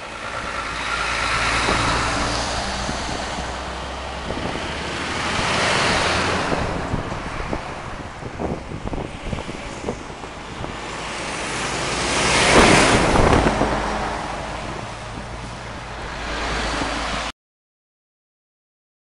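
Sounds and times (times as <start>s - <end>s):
lorry passing by: 0.0s - 17.3s
wind on microphone: 0.2s - 17.3s.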